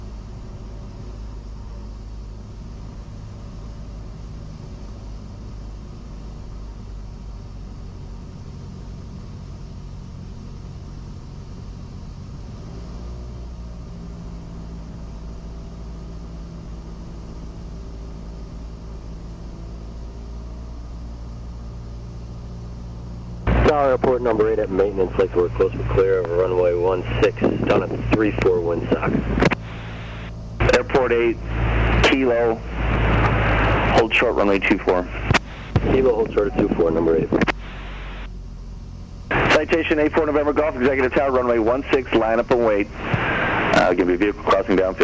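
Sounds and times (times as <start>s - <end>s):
airplane propeller engine droning: 0.0s - 45.0s.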